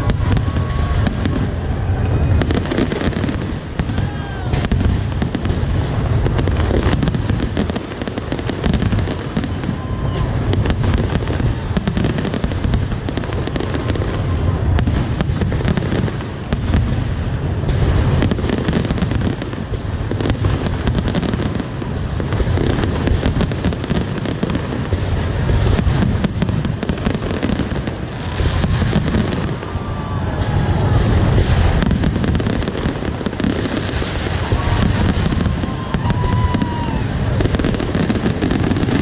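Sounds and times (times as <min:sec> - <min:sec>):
fireworks booms: 0:00.0 - 0:39.0
fireworks crackling: 0:00.0 - 0:39.0.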